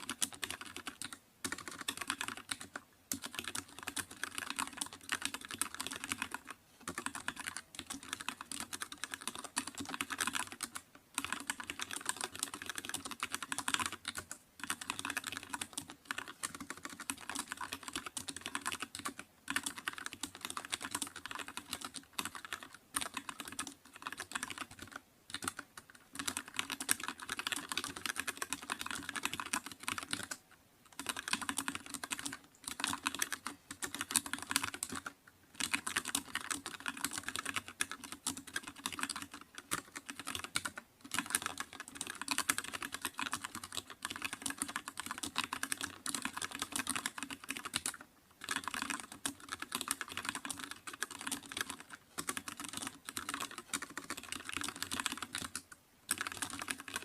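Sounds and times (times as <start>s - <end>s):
typing on keyboard: 0.0s - 57.0s.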